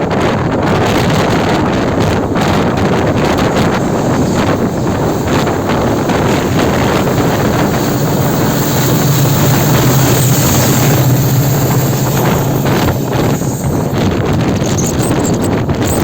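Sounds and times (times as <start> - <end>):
train wheels rumbling: 0.0 - 16.0
wind rushing on microphone: 0.0 - 16.0
steady low hum: 1.1 - 15.8.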